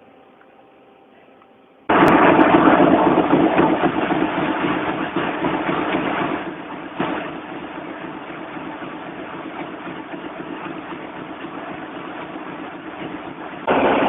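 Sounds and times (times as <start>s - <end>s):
sharp knock: 1.9s - 13.4s
printing press clattering: 1.9s - 14.0s.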